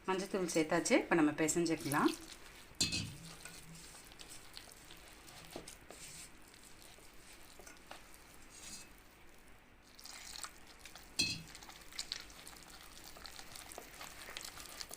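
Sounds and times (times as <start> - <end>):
batter stirred in a bowl: 0.1 - 14.9
wet squishing: 1.5 - 14.9.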